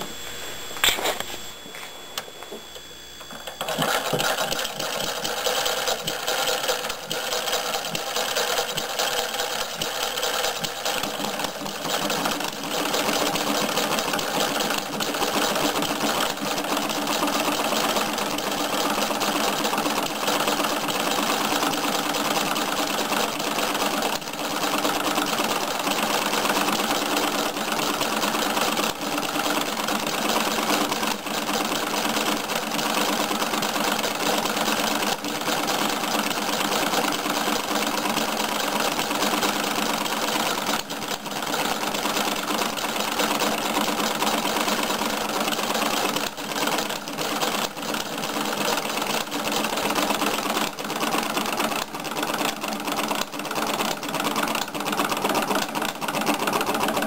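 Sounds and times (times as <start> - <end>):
model engine running with clatter: 3.5 - 57.0.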